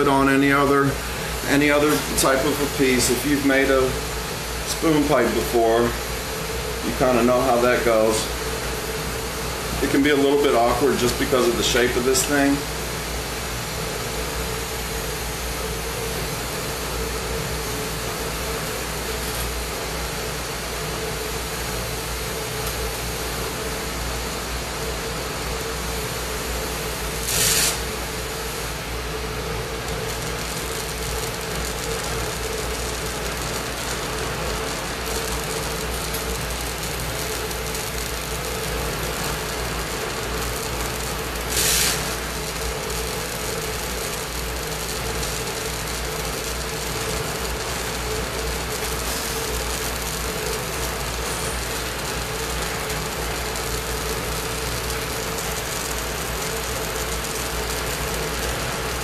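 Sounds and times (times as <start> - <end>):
torch flame rushing: 0.0 - 59.0.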